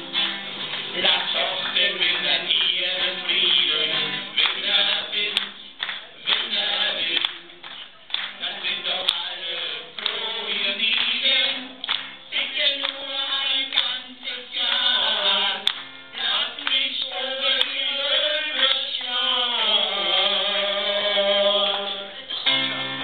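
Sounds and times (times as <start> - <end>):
musical backing: 0.0 - 23.0
group of voices singing: 0.9 - 23.0.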